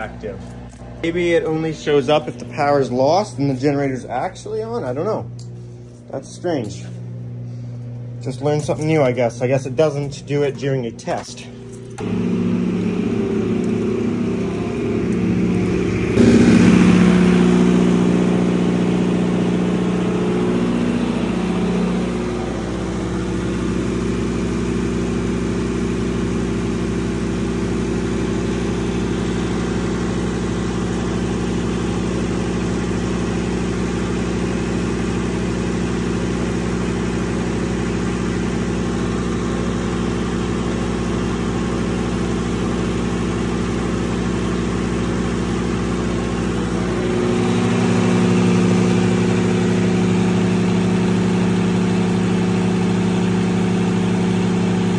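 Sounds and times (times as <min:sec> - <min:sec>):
diesel generator running: 0:00.0 - 0:54.9.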